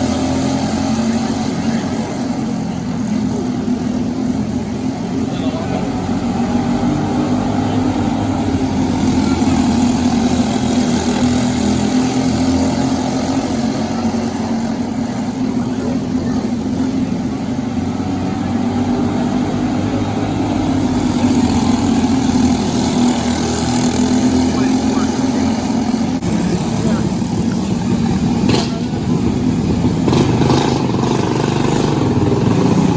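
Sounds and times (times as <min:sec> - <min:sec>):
kart engine drone: 0:00.0 - 0:32.9.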